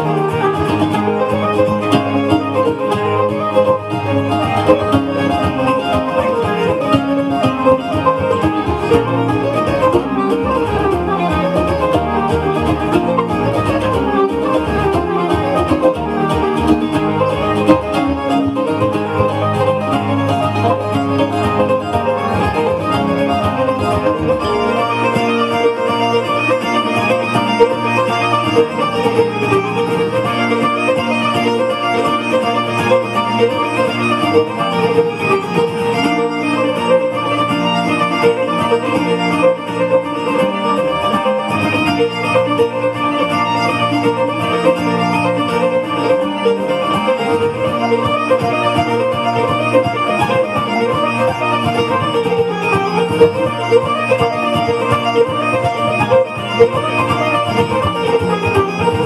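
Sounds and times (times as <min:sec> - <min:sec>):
mandolin picked melody: 0:00.0 - 0:59.0.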